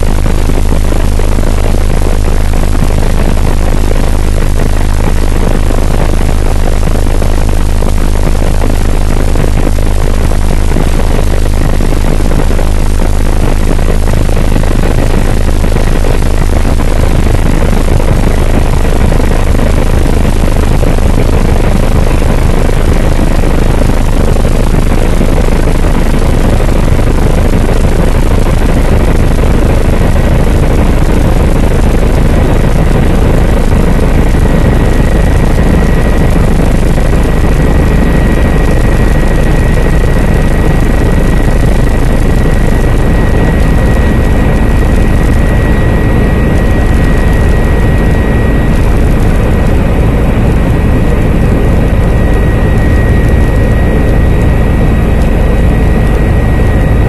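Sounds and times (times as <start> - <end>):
helicopter rotor and engine noise: 0.0 - 57.0
thin high whine: 0.0 - 57.0.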